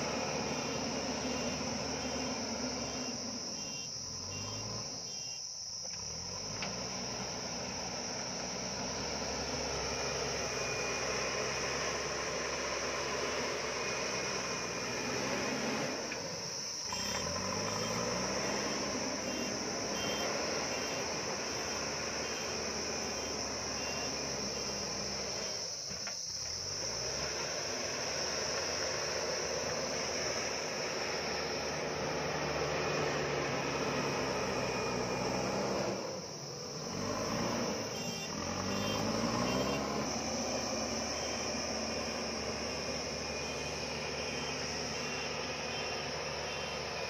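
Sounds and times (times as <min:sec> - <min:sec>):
diesel engine working under load: 0:00.0 - 0:47.0
insects chirring: 0:00.0 - 0:47.0.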